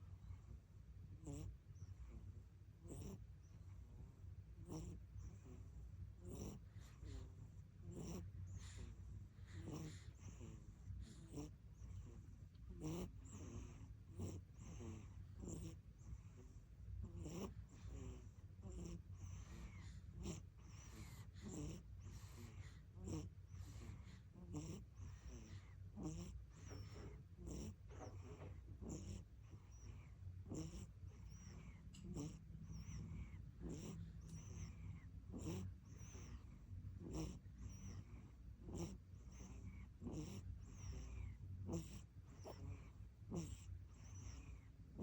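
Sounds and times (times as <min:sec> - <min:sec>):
baby breathing and snoring: 0:01.1 - 0:45.0.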